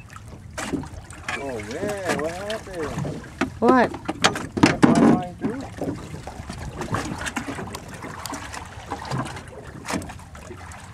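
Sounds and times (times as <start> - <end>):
water lapping against boat hull: 0.0 - 10.9.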